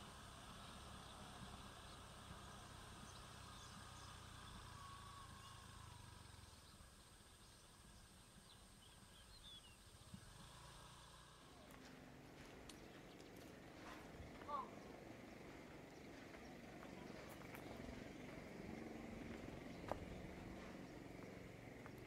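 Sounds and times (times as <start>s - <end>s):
low hum: 0.0s - 22.0s
distant bird chirps: 0.2s - 22.0s.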